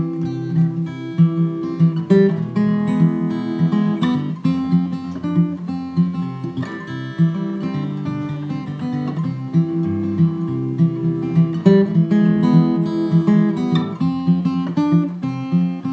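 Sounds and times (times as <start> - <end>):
acoustic guitar music: 0.0 - 15.9.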